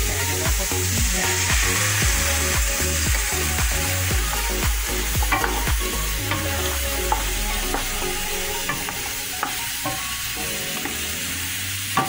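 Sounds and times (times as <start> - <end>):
pork sizzling in a pan: 0.0 - 12.0.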